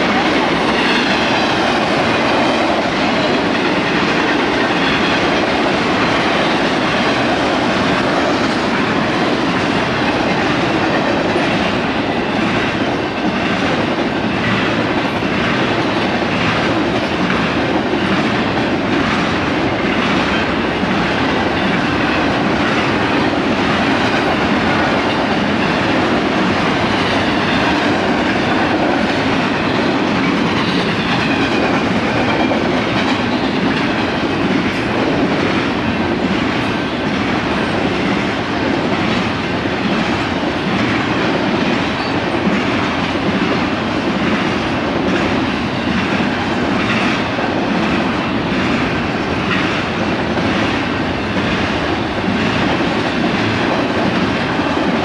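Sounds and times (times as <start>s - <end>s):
train rumbling and rattling past: 0.0s - 55.0s
wheels clacking over rail joints: 0.0s - 55.0s.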